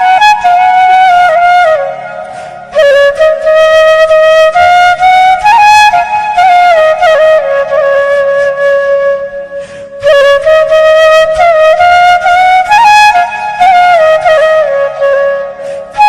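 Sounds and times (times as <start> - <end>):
solo flute melody: 0.0 - 16.0.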